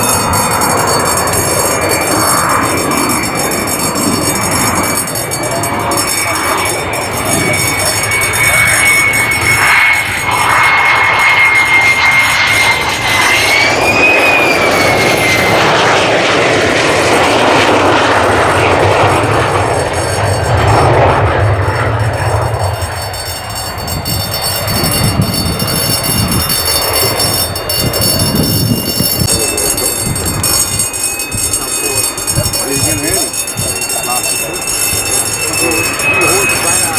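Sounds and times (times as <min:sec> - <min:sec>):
high jet whine: 0:00.0 - 0:36.9
jet engine rumble: 0:00.0 - 0:36.9.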